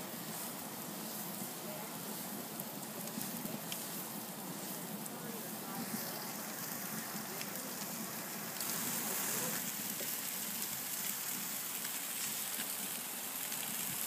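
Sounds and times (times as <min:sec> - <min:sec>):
fire crackling: 0:00.0 - 0:14.0
steaks sizzling on a grill: 0:00.0 - 0:14.0.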